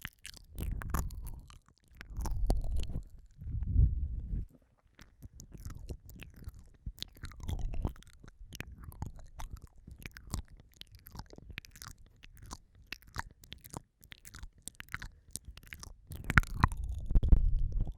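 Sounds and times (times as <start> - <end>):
lip smacks and tongue clicks: 0.0 - 3.4, 4.9 - 17.9.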